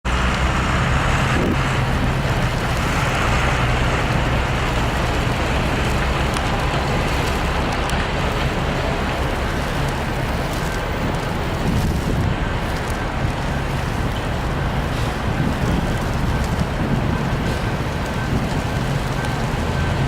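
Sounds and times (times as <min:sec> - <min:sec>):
street traffic: 0:00.0 - 0:20.0
vehicle engine humming: 0:00.0 - 0:20.0.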